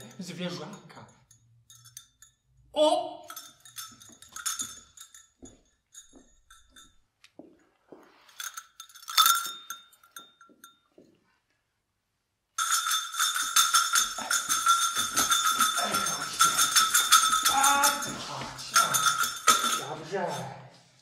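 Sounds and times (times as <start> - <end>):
small metal bell jingling: 0.0 - 7.2, 8.2 - 11.0, 12.6 - 21.0.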